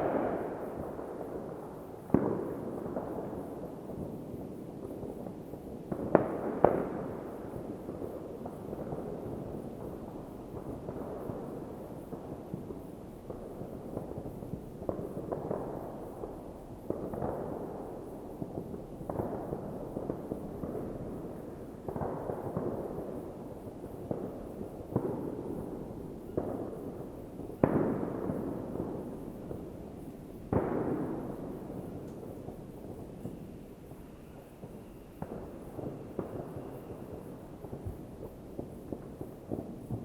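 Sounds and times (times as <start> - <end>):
fireworks banging: 0.0 - 40.0
fireworks crackling: 0.0 - 40.0.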